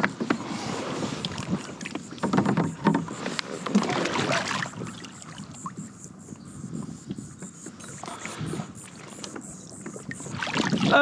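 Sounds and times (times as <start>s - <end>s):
kayak paddle swishing through water: 0.0s - 5.6s, 6.8s - 11.0s.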